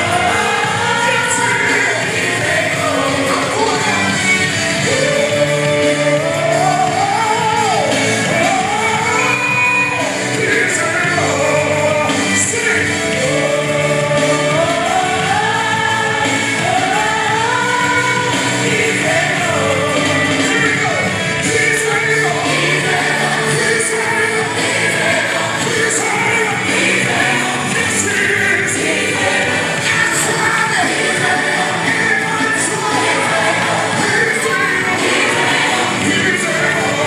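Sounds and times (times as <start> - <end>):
gospel song with choir: 0.0 - 37.0.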